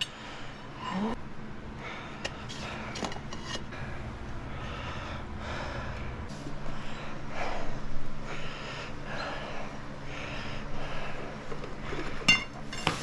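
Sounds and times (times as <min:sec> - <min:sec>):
man breathing hard: 0:00.0 - 0:12.3.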